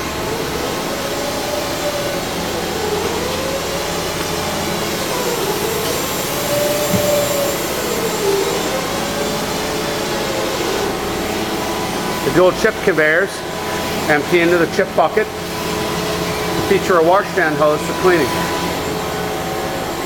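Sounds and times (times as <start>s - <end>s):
machinery whirring hum: 0.0s - 20.0s
wavering machine whine: 0.0s - 20.0s.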